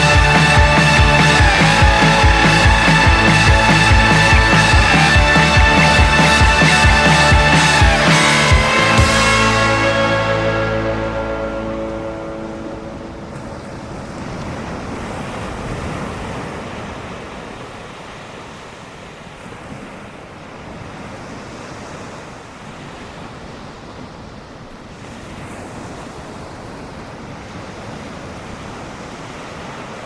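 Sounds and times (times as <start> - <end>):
ocean surf washing: 0.0 - 30.0.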